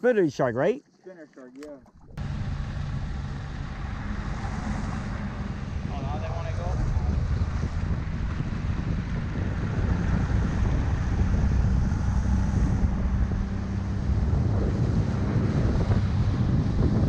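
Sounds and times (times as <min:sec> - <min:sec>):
steady low engine rumble: 0:01.7 - 0:17.0
water hissing past hull: 0:01.8 - 0:16.8
wind rushing over microphone: 0:02.0 - 0:17.0.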